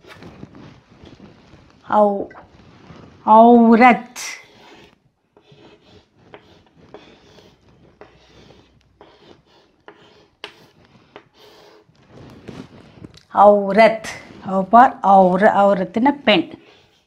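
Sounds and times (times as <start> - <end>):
chalk scratching on blackboard: 0.0 - 13.2, 13.8 - 14.5, 16.1 - 17.0.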